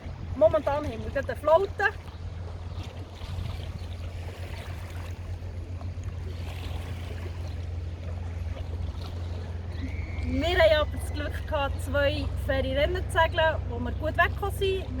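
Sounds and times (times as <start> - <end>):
steady low rumble: 0.0 - 15.0
water lapping against boat hull: 0.0 - 15.0.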